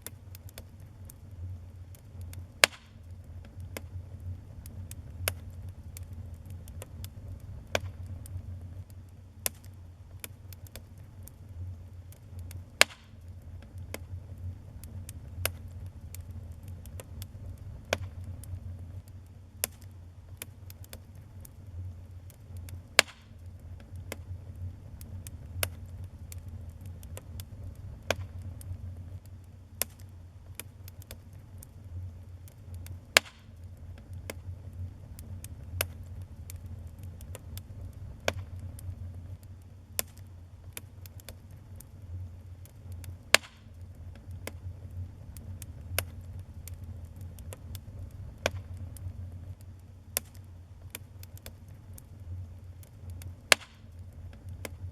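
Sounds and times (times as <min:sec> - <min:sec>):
fire crackling and popping: 0:00.0 - 0:54.9
fire low rumble: 0:00.0 - 0:54.9.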